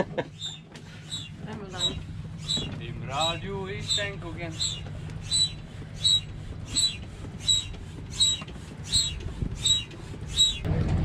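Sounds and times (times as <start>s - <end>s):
hand pump squeaky air hiss: 0.4s - 10.6s.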